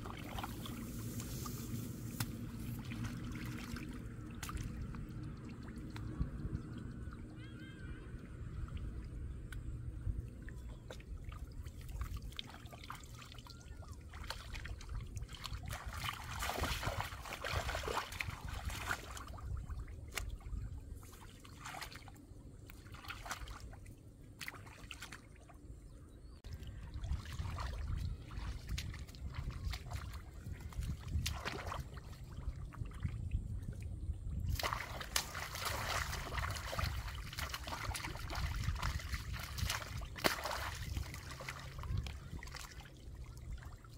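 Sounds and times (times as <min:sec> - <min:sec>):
muddy water sloshing and splashing: 0:00.0 - 0:43.9.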